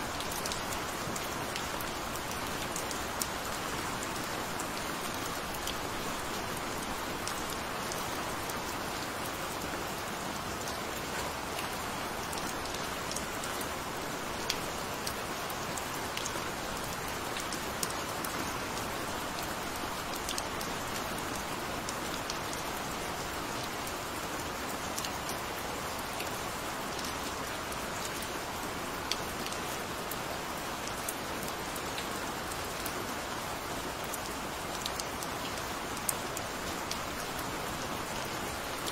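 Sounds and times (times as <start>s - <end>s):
gentle rain falling: 0.0s - 38.9s.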